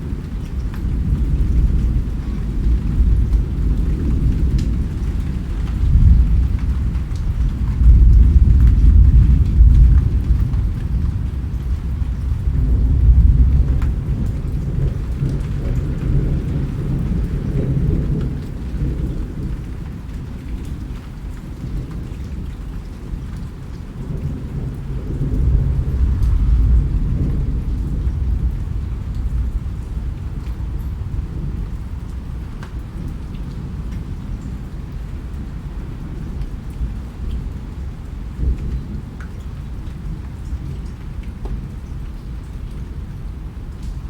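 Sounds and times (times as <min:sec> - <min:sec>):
raindrop ticks: 0:00.0 - 0:44.0
steady rain: 0:00.0 - 0:44.0
thunder rumbling: 0:00.0 - 0:44.0.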